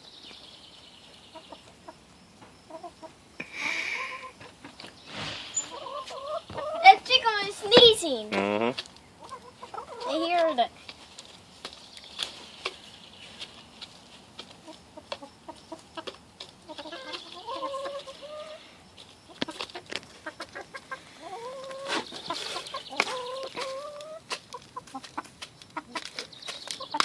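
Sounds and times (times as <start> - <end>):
chicken trilling calls: 1.3 - 7.5, 8.3 - 10.5, 12.2 - 27.0.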